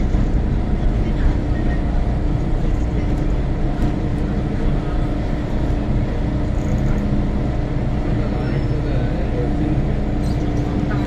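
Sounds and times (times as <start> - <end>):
low motor hum: 0.0 - 11.0
train wheels rumbling: 0.0 - 11.0.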